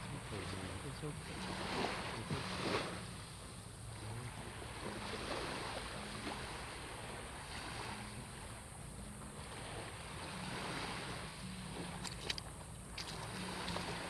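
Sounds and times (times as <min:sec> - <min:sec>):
small waves washing in: 0:00.0 - 0:14.0
wind on microphone: 0:00.0 - 0:14.0.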